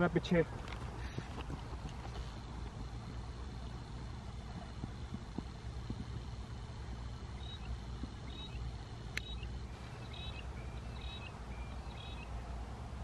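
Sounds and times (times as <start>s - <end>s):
birds chirping: 0.0s - 2.7s, 3.5s - 13.0s
steady low rumble: 0.0s - 13.0s.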